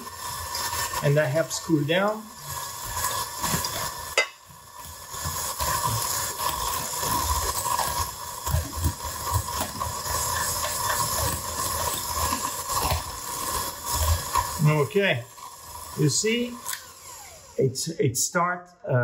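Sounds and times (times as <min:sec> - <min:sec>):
electric hand mixer whirring: 0:00.0 - 0:17.9.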